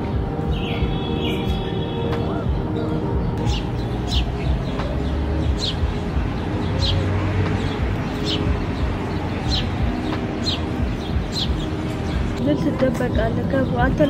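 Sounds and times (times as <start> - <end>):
distant city traffic rumble: 0.0 - 14.0
bird chirping: 0.5 - 14.0.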